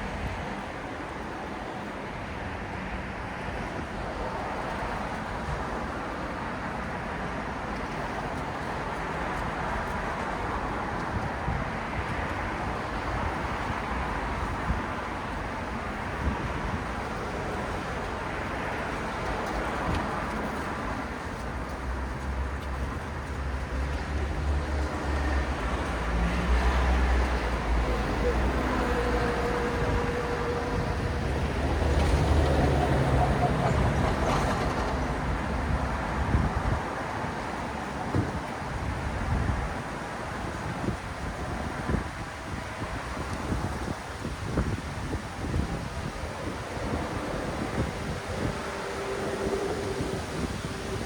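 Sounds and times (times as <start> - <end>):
passing cars: 0.0 - 51.0
road traffic rumble: 0.0 - 51.0.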